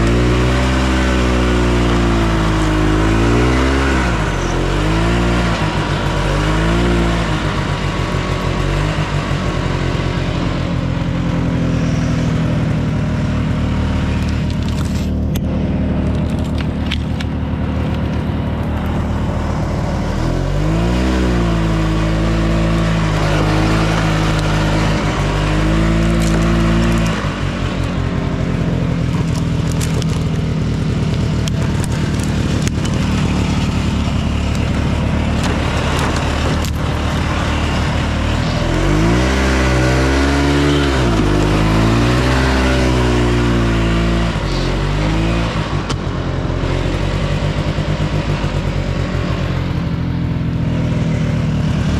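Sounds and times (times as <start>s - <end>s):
snowmobile engine running: 0.0s - 51.9s.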